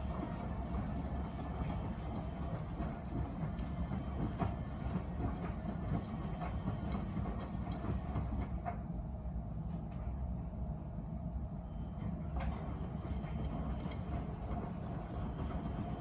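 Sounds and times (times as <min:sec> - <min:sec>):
washing machine drum rumble: 0:00.0 - 0:08.9, 0:12.0 - 0:16.0.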